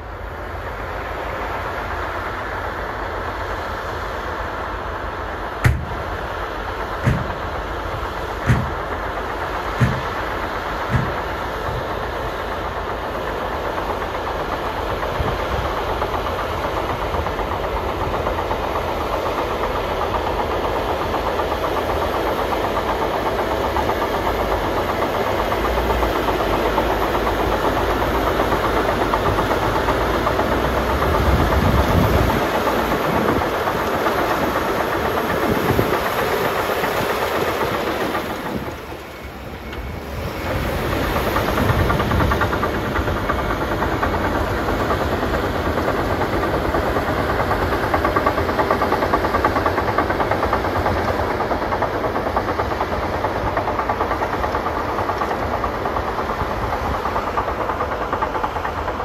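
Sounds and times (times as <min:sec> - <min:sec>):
bulldozer diesel engine: 0:00.0 - 0:59.0
steel tracks clattering: 0:00.0 - 0:59.0.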